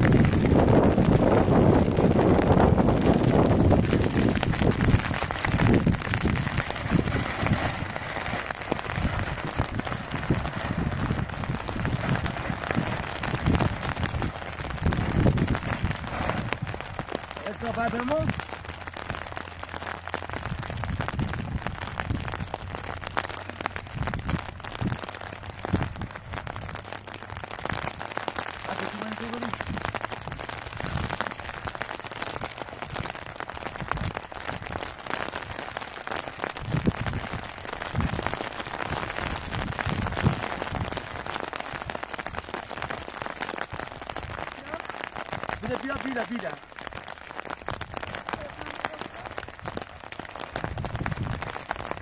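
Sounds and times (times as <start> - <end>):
rain pattering on plastic sheeting: 0.0 - 52.0
wind buffeting microphone: 0.0 - 52.0.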